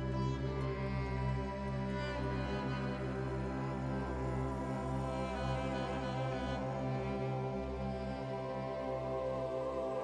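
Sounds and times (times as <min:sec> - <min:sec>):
slow orchestral strings: 0:00.0 - 0:10.0.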